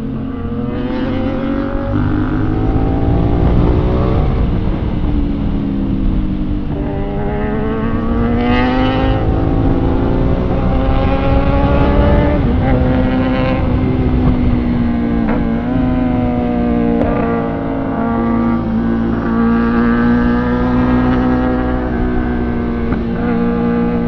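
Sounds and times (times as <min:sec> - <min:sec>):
motorcycle engine accelerating: 0:00.0 - 0:24.0
wind rumble on microphone: 0:00.0 - 0:24.0.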